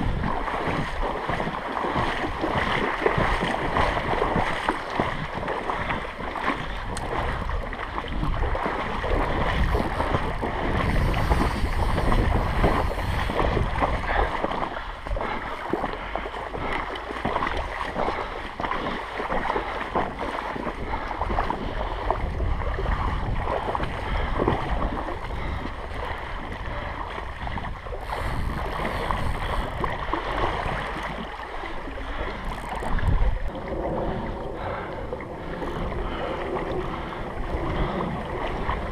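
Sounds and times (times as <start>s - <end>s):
stream water rushing and splashing: 0.0s - 38.9s
wind buffeting microphone: 0.0s - 38.9s.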